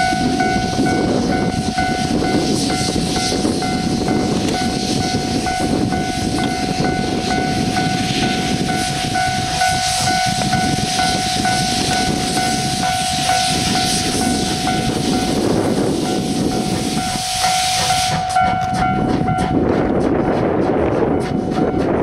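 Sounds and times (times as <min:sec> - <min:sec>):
steady high tone: 0:00.0 - 0:20.1
steam locomotive hissing: 0:00.0 - 0:22.0.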